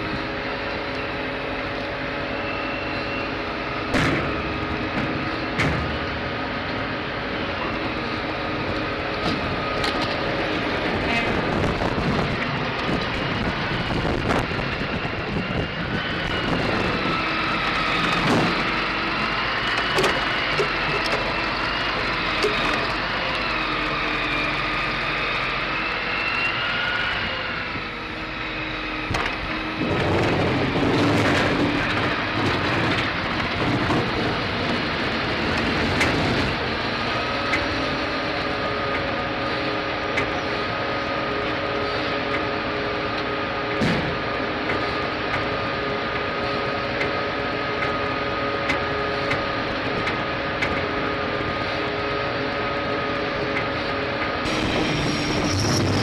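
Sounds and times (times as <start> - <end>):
diesel engine and hydraulics droning: 0.0 - 56.0.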